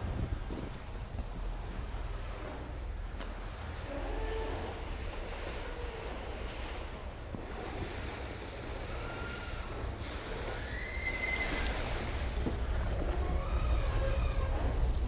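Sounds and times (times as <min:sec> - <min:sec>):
low engine rumble: 0:00.0 - 0:15.0
water washing: 0:00.0 - 0:15.0
wind noise: 0:00.0 - 0:15.0.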